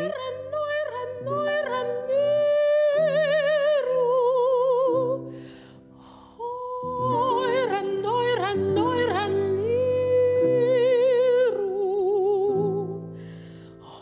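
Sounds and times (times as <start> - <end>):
soprano singing with vibrato: 0.0 - 5.4, 6.0 - 13.1.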